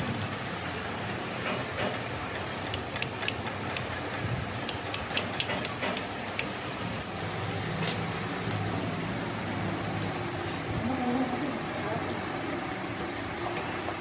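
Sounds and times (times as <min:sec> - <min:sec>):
workshop hum: 0:00.0 - 0:14.0.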